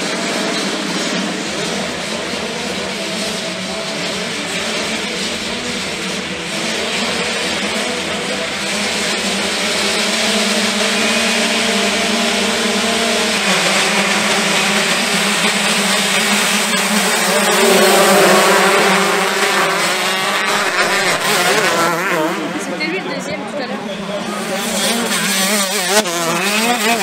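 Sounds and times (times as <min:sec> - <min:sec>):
motocross engines revving: 0:00.0 - 0:27.0.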